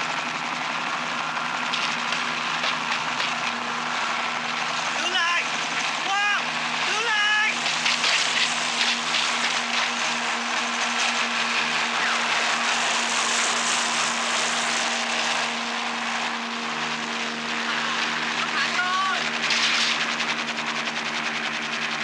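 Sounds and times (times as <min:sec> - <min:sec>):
motor drone: 0:00.0 - 0:22.0.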